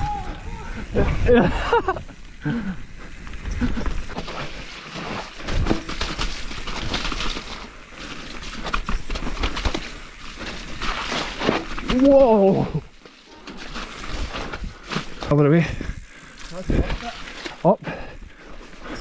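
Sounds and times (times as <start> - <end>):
bike tyre noise on trail: 0.0 - 19.0
bike rattling and knocking: 3.0 - 19.0.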